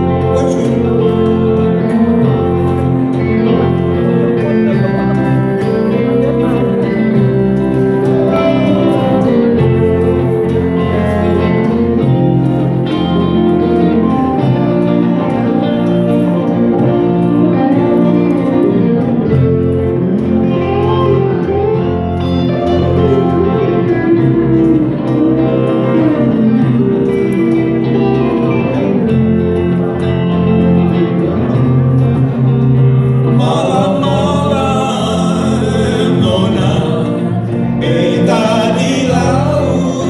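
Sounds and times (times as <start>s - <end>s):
bass line: 0.0s - 40.0s
live band with guitars: 0.0s - 40.0s.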